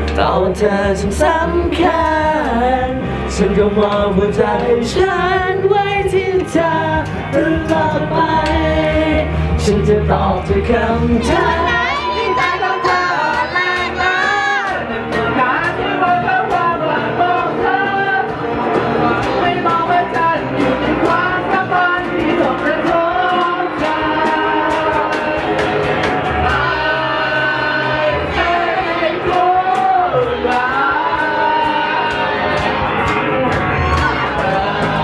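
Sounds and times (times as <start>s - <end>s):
electric guitars and bass: 0.0s - 35.0s
person singing: 0.0s - 35.0s.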